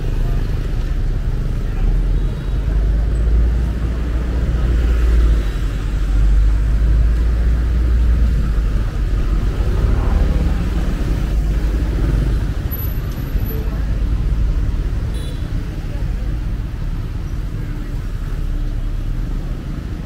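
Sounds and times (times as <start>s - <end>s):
traffic passing: 0.0s - 20.0s.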